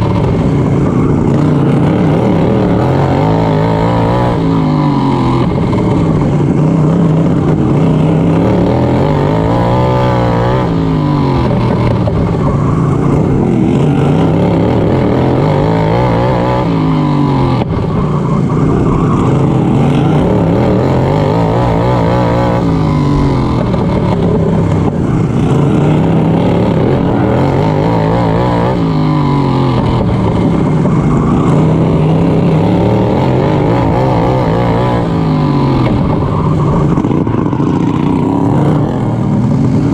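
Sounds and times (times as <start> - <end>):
racing lawn mower engine revving: 0.0 - 39.9.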